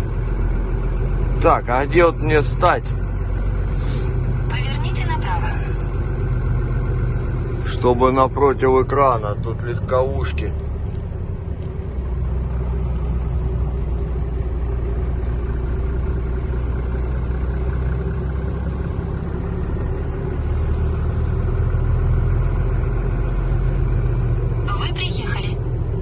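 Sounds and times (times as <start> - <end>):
truck diesel engine humming: 0.0 - 26.0.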